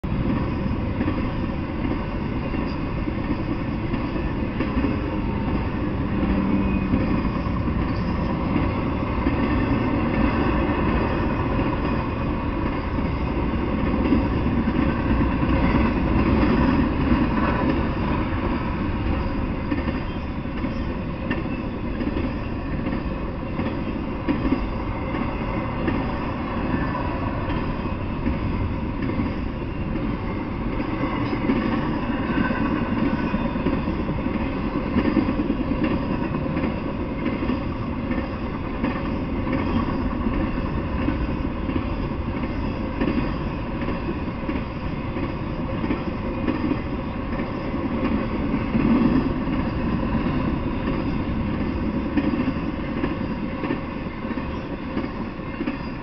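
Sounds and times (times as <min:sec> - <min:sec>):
freight train rumbling on rails: 0:00.0 - 0:56.0.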